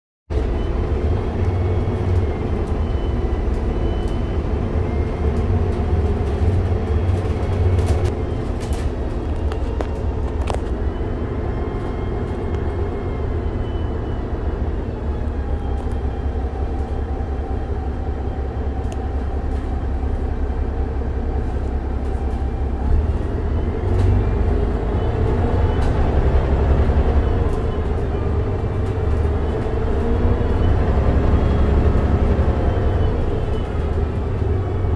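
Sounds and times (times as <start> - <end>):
bus engine rumble: 0.3 - 34.9.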